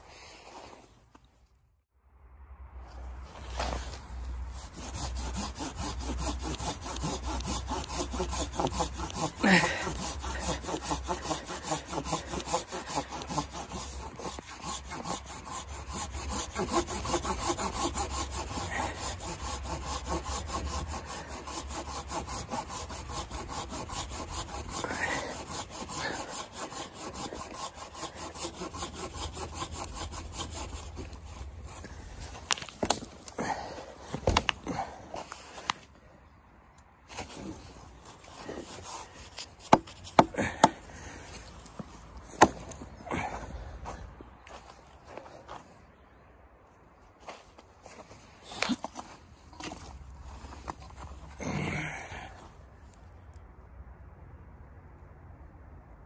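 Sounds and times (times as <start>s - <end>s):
hand saw cutting log: 3.5s - 35.8s, 37.1s - 45.6s, 47.2s - 52.4s.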